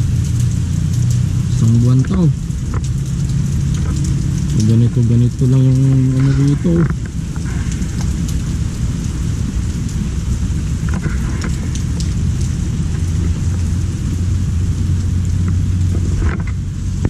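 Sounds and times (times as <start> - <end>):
deep low rumble: 0.0 - 17.0
heavy rain falling: 0.0 - 17.0.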